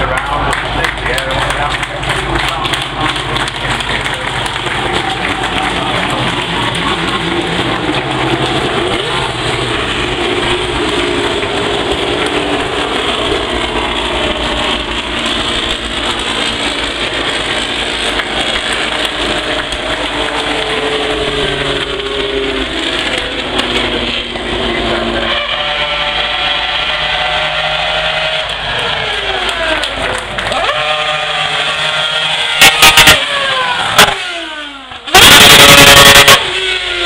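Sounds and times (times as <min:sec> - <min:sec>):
race cars driving past: 0:00.0 - 0:37.0.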